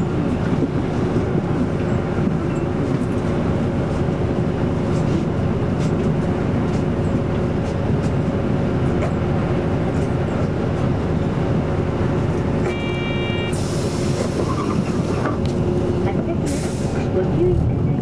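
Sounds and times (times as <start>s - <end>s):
bus engine drone with whine: 0.0s - 18.0s.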